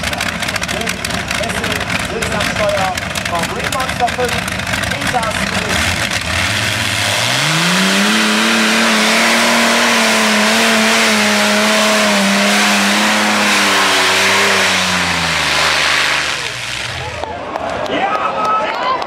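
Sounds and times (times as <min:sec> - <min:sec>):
aircraft engines revving at full power: 0:00.0 - 0:17.4.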